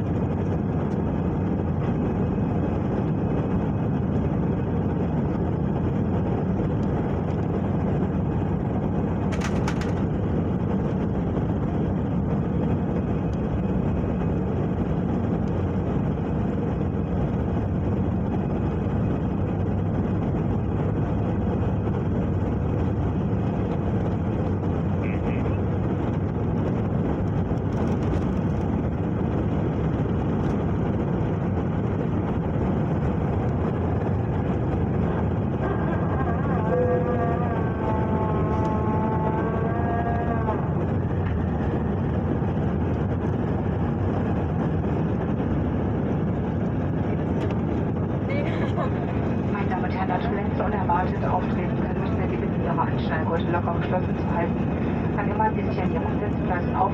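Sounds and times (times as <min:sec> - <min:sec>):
airliner engines and airflow: 0:00.0 - 0:56.9.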